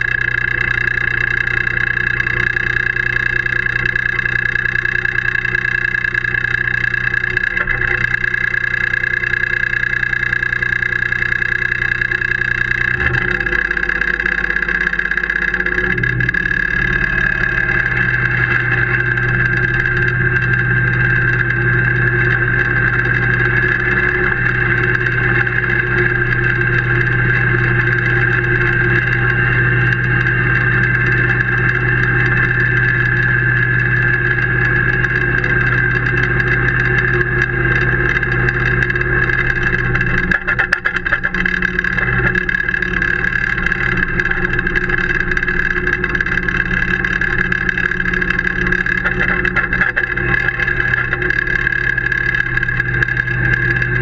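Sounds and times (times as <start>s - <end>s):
rattling: 0.0s - 54.0s
tractor engine running: 0.0s - 54.0s.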